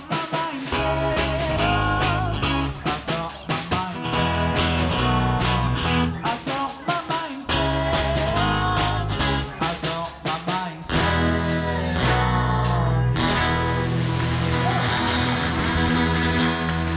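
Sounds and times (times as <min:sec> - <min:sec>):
people singing: 0:00.0 - 0:15.2
strummed acoustic guitar: 0:00.0 - 0:16.9
electric guitar: 0:00.7 - 0:10.3, 0:10.9 - 0:16.9.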